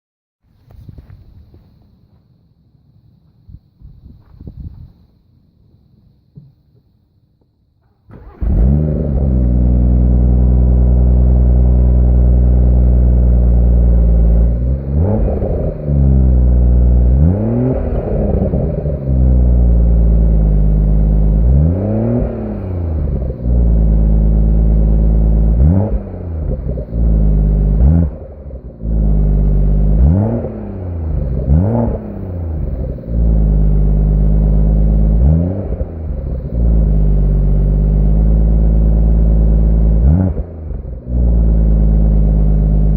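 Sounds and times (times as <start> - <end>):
car engine starting and revving: 7.8 - 42.9.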